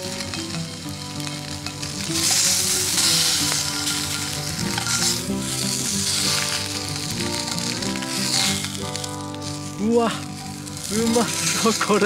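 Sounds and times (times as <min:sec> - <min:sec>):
background music: 0:00.0 - 0:12.0
bacon and eggs sizzling: 0:00.0 - 0:12.0.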